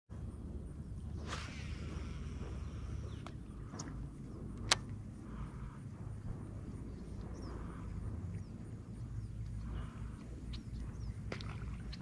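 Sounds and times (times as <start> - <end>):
steady low rumble: 0.1 - 12.0.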